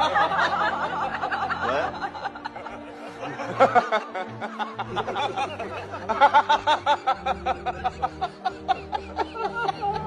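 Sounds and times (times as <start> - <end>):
background music: 0.0 - 10.0
person laughing: 1.4 - 10.0.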